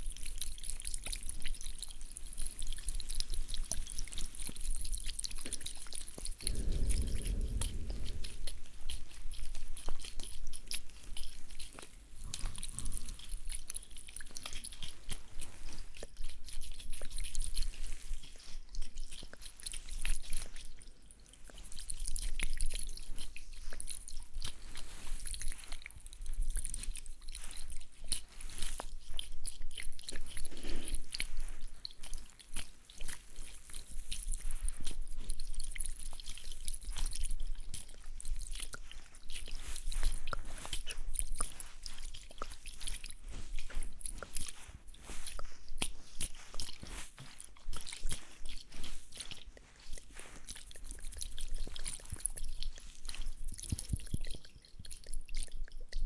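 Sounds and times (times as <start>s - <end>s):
soft wet smacks: 0.1s - 56.0s.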